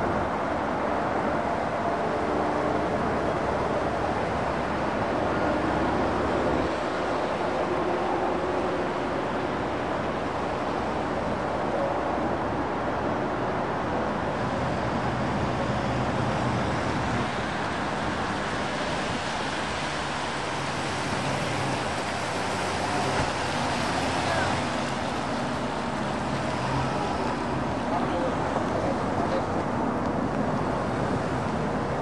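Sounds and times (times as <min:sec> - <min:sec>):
tyres hissing on wet road: 0:00.0 - 0:32.0.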